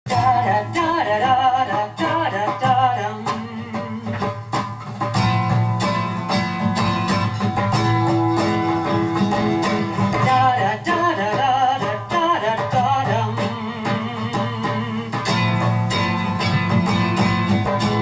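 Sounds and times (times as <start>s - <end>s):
live rock guitar playing: 0.1s - 18.0s.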